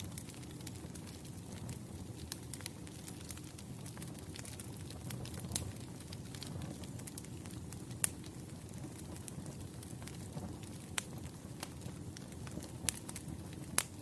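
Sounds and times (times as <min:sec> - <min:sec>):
campfire flames rumbling: 0:00.0 - 0:14.0
fire crackling and popping: 0:00.0 - 0:14.0.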